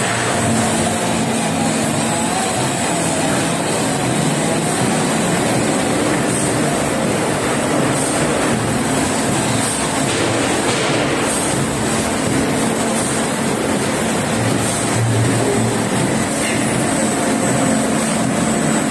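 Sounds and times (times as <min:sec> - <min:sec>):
veneer peeling machine running: 0:00.0 - 0:18.9.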